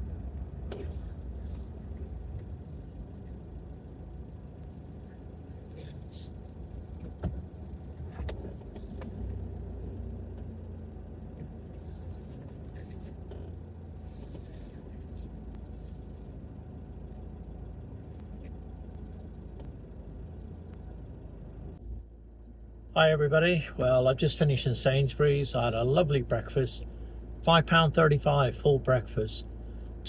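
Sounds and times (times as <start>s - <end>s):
engine low rumble: 0.0s - 30.0s.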